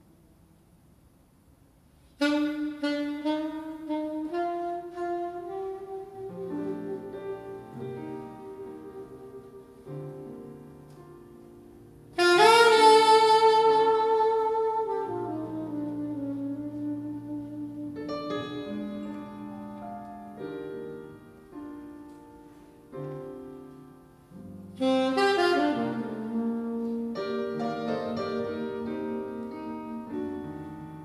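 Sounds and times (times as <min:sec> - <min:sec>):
quiet piano accompaniment: 0:00.0 - 0:31.0
alto saxophone jazz phrase: 0:02.0 - 0:31.0.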